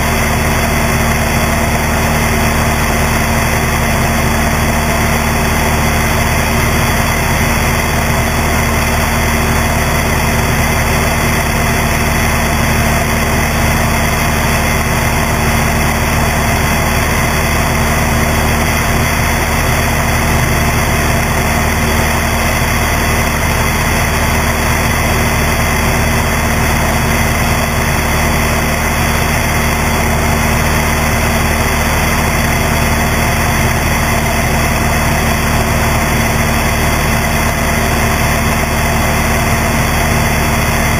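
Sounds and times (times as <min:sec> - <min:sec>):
airplane engine and propeller droning: 0:00.0 - 0:40.9.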